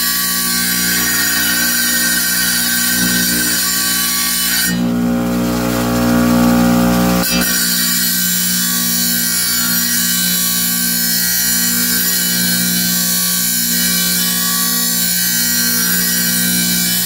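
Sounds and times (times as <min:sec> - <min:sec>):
saw blade grinding: 0:00.0 - 0:17.0
wet tile saw humming: 0:00.0 - 0:17.0.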